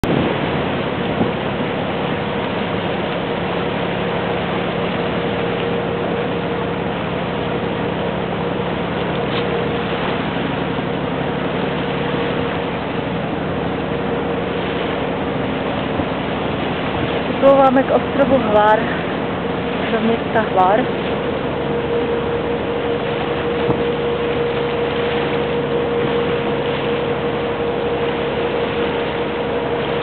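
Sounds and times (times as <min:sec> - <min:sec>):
boat engine drone: 0:00.0 - 0:30.0
water rushing past hull: 0:00.0 - 0:30.0.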